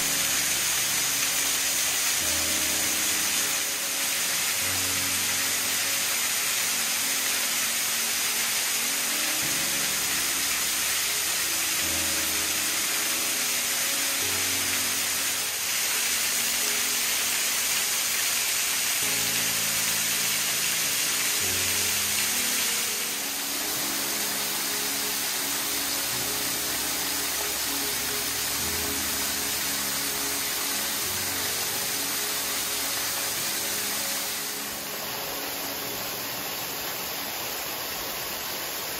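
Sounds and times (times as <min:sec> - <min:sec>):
slow low background music: 0:00.0 - 0:38.9
waterfall pouring onto rocks: 0:00.0 - 0:38.9.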